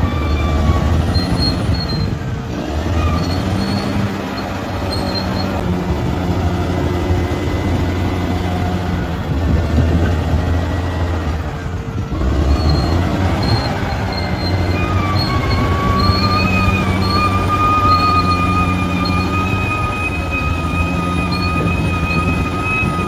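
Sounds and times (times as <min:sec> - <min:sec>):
bulldozer diesel engine: 0:00.0 - 0:23.0
steel tracks squeaking: 0:00.0 - 0:23.0.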